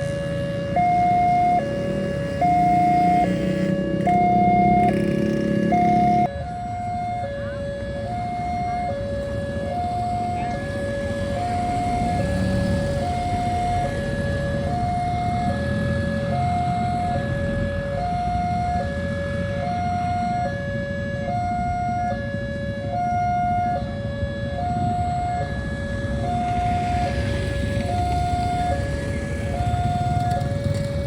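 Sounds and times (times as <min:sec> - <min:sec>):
two-tone crossing alarm: 0:00.0 - 0:31.0.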